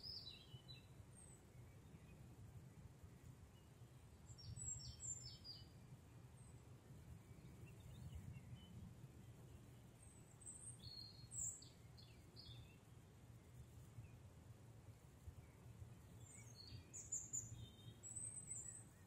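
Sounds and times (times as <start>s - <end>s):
faint birdsong: 0.0s - 19.0s
low steady background rumble: 0.0s - 19.0s.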